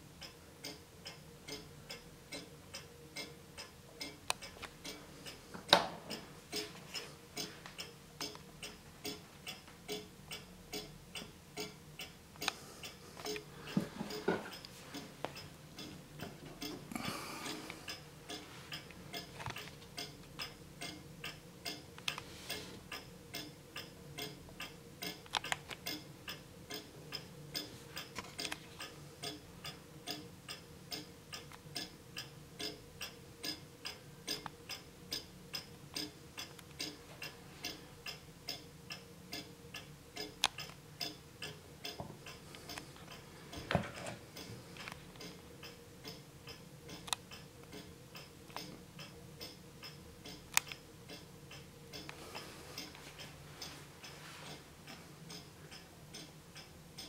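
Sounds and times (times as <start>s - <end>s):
wall clock ticking: 0.0s - 57.0s.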